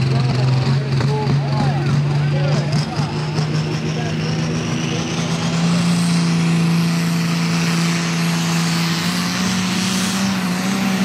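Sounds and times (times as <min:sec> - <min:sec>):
diesel tractor engine under load: 0:00.0 - 0:11.0
high turbo whine: 0:00.0 - 0:11.0.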